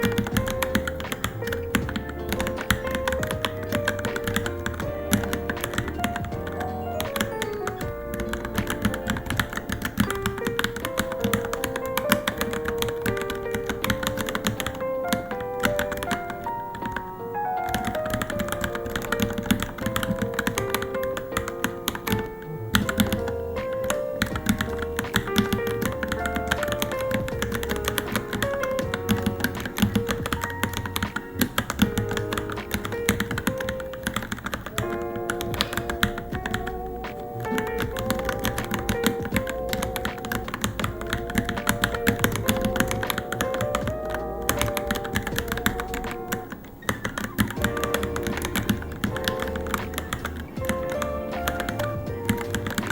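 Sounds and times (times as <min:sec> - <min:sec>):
background music with melody: 0:00.0 - 0:52.9
mechanical keyboard typing: 0:00.0 - 0:52.9.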